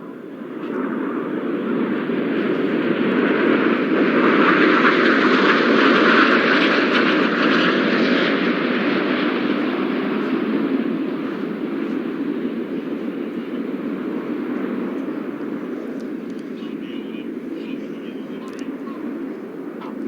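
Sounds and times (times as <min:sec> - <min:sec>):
jets flying past: 0:00.1 - 0:20.0.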